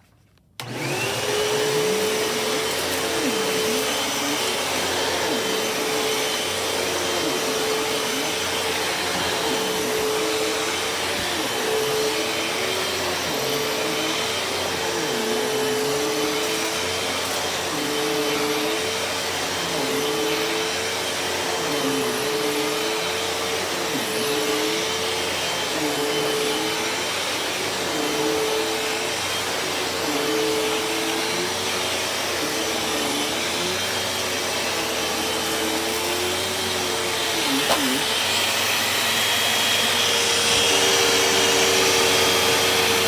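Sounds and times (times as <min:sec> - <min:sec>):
vacuum cleaner running: 0:00.6 - 0:43.0.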